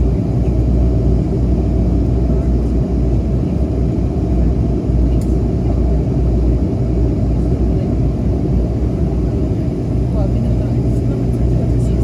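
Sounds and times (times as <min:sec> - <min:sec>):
turboprop airliner rumble: 0:00.0 - 0:12.0.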